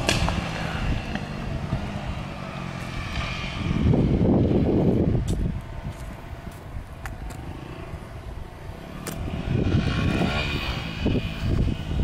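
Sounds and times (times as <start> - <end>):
distant dirt bike engine revving: 0.0 - 5.3, 7.1 - 12.0.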